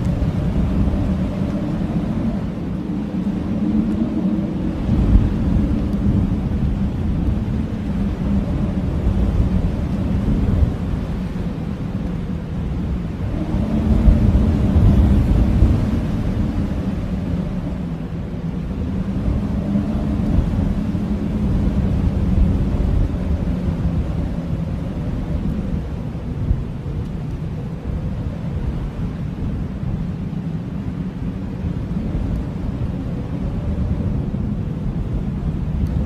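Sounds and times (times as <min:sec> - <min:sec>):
blizzard wind howling: 0:00.0 - 0:36.0.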